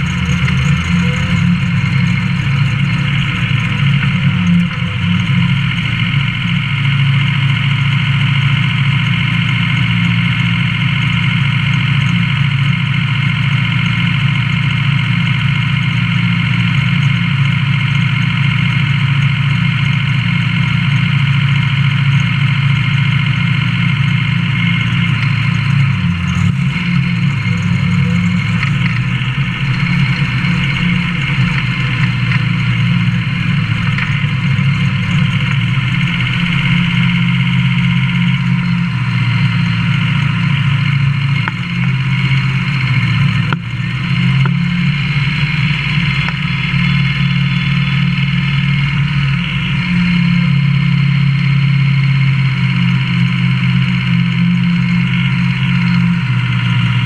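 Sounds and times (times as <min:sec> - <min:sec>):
truck engine idling loudly: 0:00.0 - 0:57.0.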